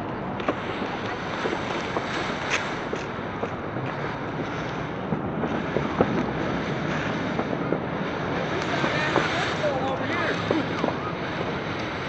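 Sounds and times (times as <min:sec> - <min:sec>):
firework fountain hissing: 0:00.0 - 0:12.0
sharp crackles: 0:00.0 - 0:12.0
wind buffeting microphone: 0:00.0 - 0:12.0.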